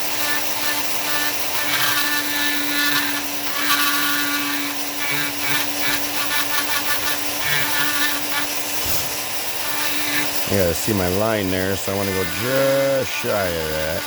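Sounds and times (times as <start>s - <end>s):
rotary tool grinding wood: 0.0s - 14.0s.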